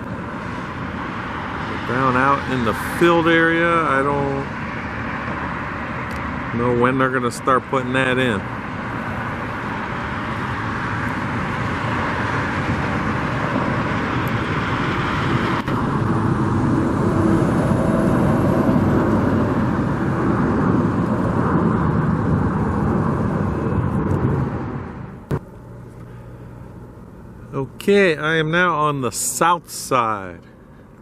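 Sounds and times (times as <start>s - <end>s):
motor vehicle rumble: 0.0s - 31.0s.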